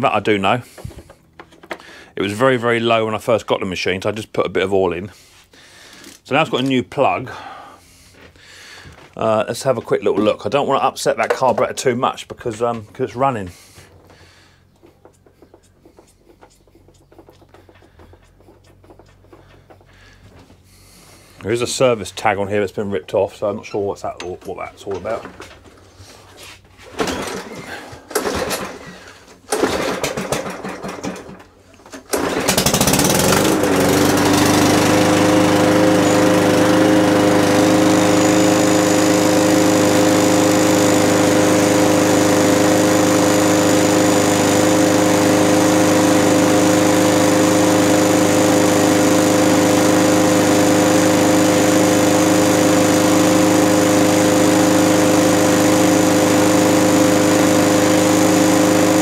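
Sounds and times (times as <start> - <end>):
lawnmower engine running: 0.0 - 3.4, 8.9 - 22.7, 23.3 - 59.0
lawnmower start attempts: 0.0 - 59.0.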